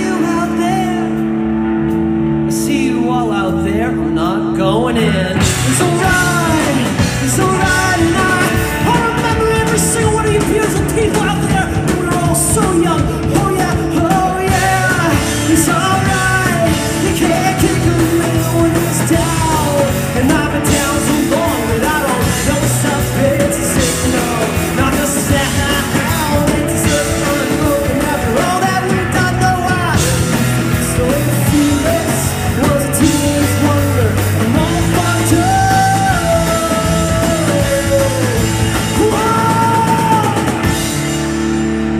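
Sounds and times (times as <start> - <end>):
electric bass: 0.0 - 41.9
electric guitar: 0.0 - 41.9
person singing: 0.0 - 41.9
drum kit: 4.2 - 41.9.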